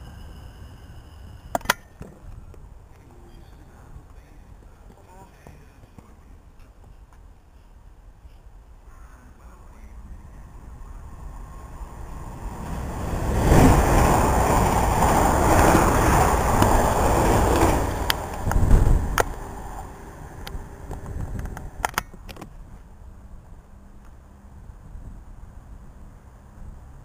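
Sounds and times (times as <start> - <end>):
train passing at speed: 0.0 - 21.9.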